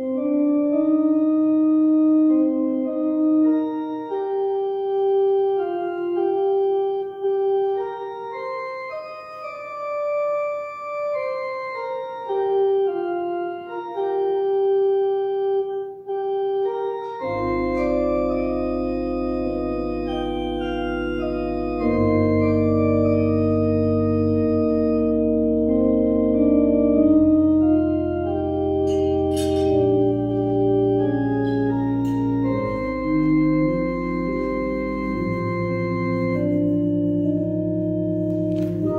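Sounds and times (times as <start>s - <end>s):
church organ playing: 0.0s - 38.9s.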